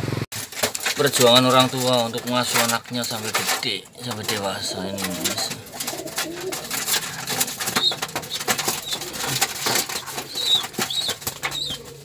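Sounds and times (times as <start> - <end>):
pigeon wing flaps and rustles: 0.4 - 12.0.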